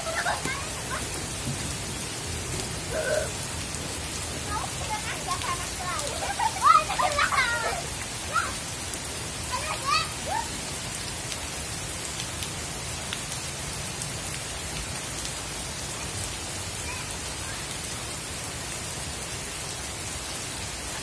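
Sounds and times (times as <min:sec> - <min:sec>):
heavy rain falling on water: 0:00.0 - 0:21.0.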